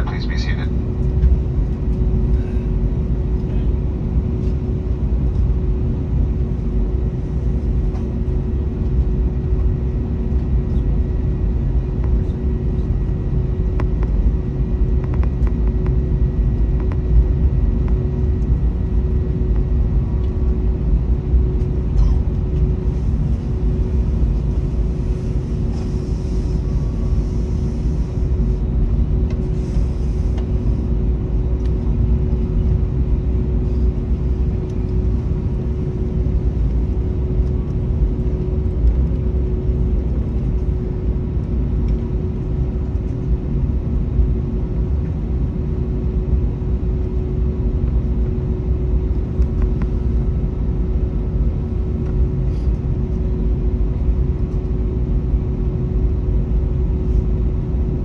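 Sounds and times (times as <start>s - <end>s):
jet engines low rumble in cabin: 0.0s - 58.0s.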